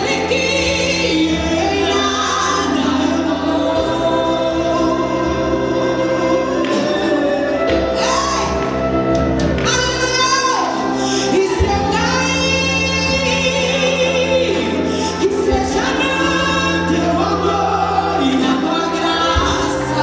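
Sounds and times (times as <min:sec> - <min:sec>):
band playing sustained chords: 0:00.0 - 0:20.0
group of voices singing: 0:00.0 - 0:20.0.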